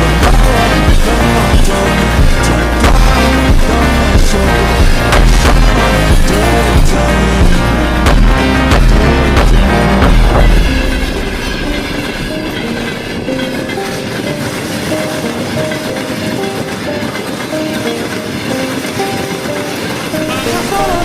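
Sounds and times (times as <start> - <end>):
train rolling rumble: 0.0 - 21.0
wheels clattering over rail joints: 0.0 - 21.0.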